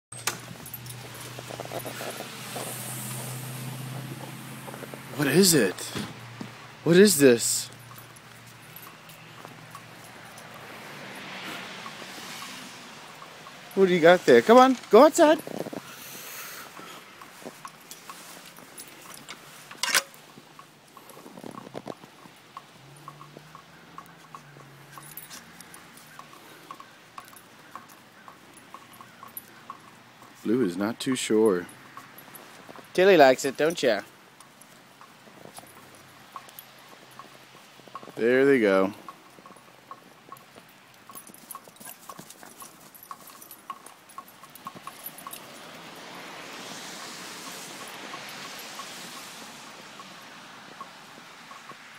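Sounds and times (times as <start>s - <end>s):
dog paws patting on snow: 0.2s - 51.7s.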